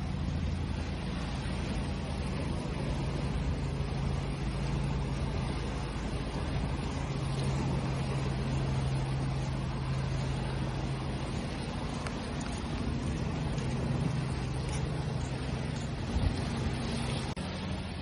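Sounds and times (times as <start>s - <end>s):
low engine-like hum: 0.0s - 18.0s
waves washing: 0.0s - 18.0s.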